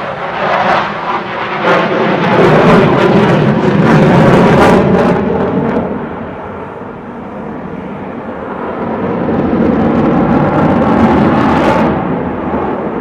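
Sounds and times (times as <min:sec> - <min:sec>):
jet plane roar: 0:00.0 - 0:13.0.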